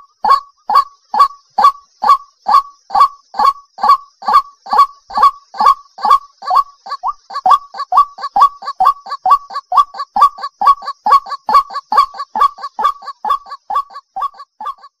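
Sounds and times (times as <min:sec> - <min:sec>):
waterhen croaking call: 0:00.0 - 0:15.0.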